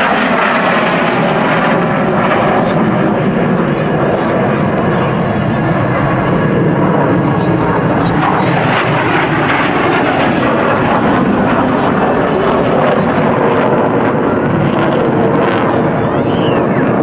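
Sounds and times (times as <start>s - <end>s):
falling whine: 0.0s - 17.0s
jet roar: 0.0s - 17.0s.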